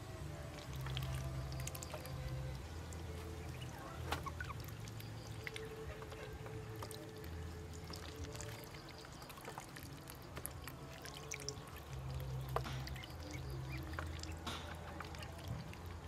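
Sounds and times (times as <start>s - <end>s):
ducklings splashing in water: 0.4s - 16.0s.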